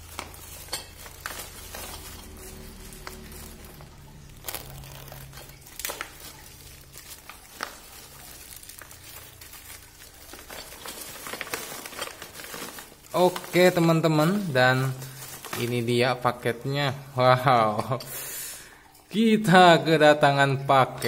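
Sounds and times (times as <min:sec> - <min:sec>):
plastic bag crinkling and rustling: 0:00.0 - 0:20.0.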